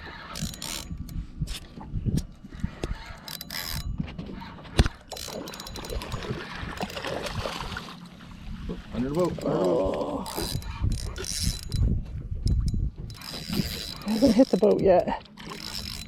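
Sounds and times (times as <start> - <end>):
fishing reel cranking and clicking: 0.0 - 7.6, 9.0 - 16.0.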